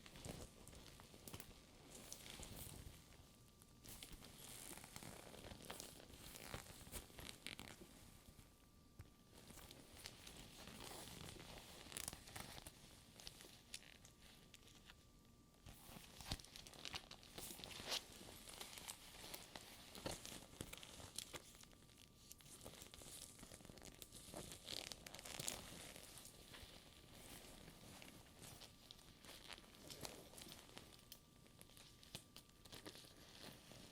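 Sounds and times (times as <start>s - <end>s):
sticky purse crackling rustles: 3.8s - 8.4s, 9.3s - 15.0s, 15.7s - 33.9s.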